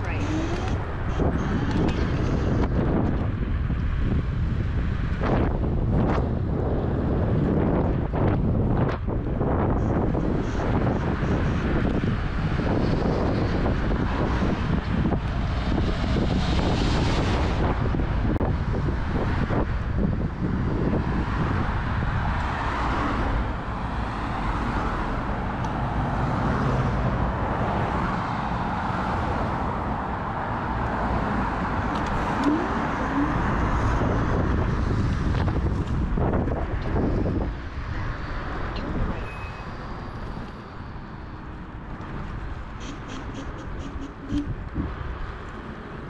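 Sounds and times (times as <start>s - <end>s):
car traffic: 0.0s - 46.0s
road noise: 0.0s - 46.0s
wind noise: 0.0s - 46.0s.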